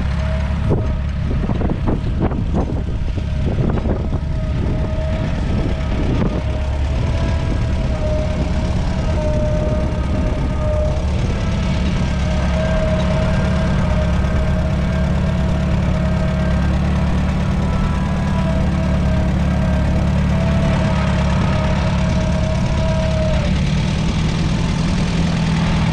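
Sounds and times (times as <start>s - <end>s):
tractor engine running: 0.0s - 25.9s
high wavering whine: 2.2s - 24.5s.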